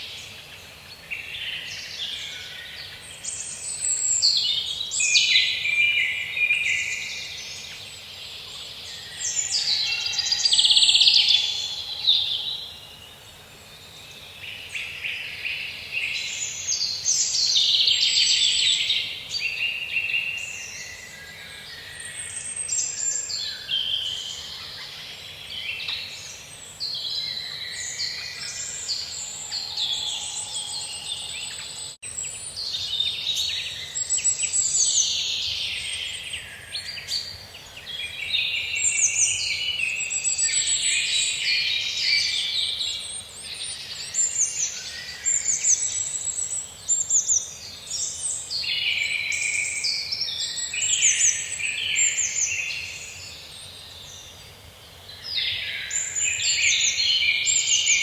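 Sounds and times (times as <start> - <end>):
birds singing and calling: 0.0 - 58.0.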